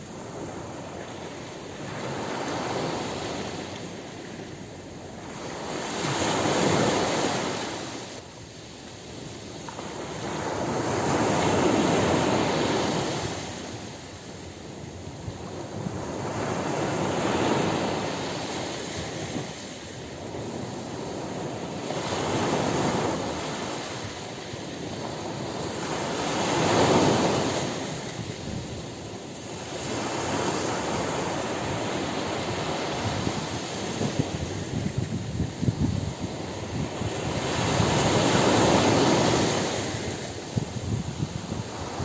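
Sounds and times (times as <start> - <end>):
ocean waves breaking on beach: 0.0 - 42.0.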